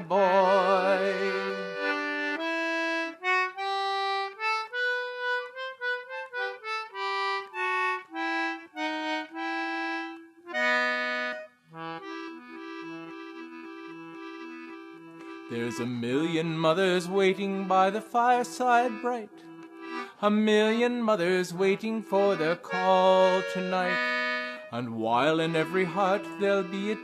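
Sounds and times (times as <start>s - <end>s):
old instrumental song recording: 0.0s - 27.0s.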